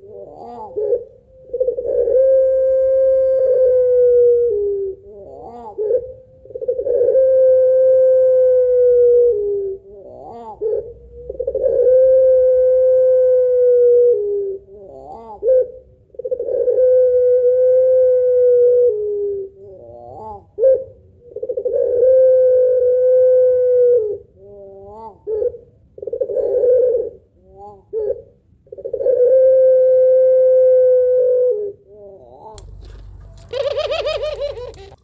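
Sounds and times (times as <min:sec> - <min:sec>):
dove laughing call: 0:00.0 - 0:35.0.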